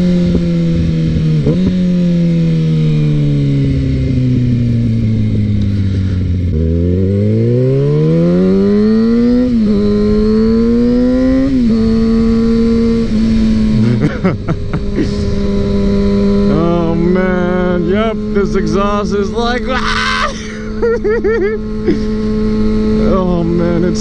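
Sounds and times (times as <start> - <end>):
gear changes: 0.0 - 24.0
motorcycle engine revving: 0.0 - 24.0.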